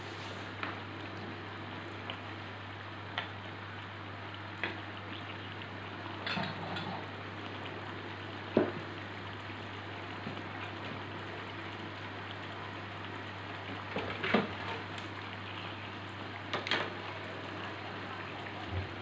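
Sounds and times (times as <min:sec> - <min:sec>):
curry bubbling in a pan: 0:00.1 - 0:19.0.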